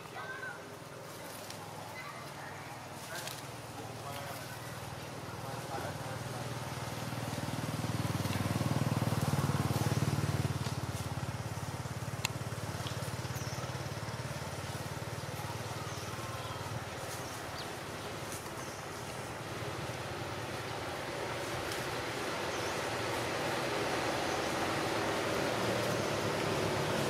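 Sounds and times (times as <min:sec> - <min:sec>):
engine rumbling low: 0:02.7 - 0:27.0.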